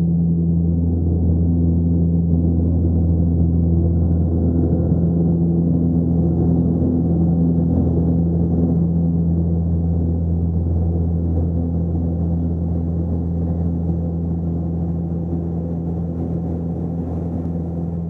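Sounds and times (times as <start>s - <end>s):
low soundtrack drone: 0.0s - 18.0s.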